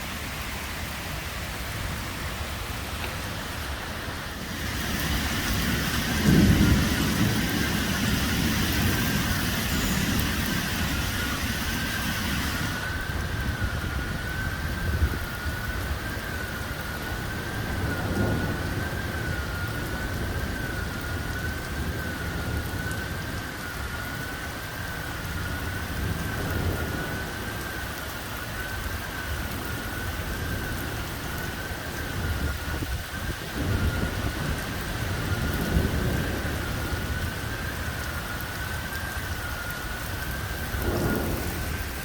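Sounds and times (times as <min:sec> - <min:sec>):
heavy rain: 0:00.0 - 0:42.0
thunder rumbling: 0:00.0 - 0:42.0
wavering siren-like alarm tone: 0:03.6 - 0:42.0.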